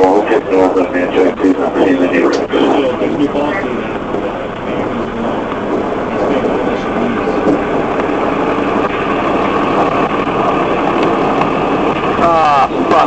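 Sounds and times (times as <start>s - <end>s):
car engine and cabin noise: 0.0s - 13.0s.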